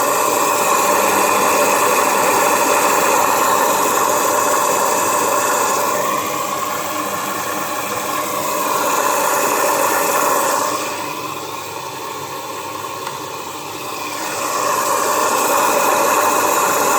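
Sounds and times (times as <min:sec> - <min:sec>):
washing machine filling with water: 0:00.0 - 0:16.9.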